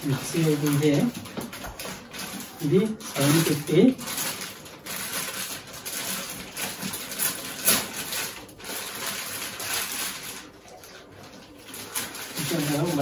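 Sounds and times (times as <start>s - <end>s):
plastic wrapping rustling: 0.0s - 13.0s.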